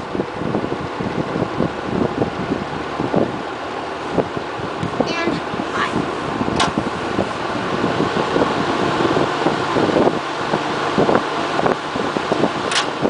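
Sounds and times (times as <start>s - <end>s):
airflow blowing on microphone: 0.0s - 13.0s
box fan running: 0.0s - 13.0s.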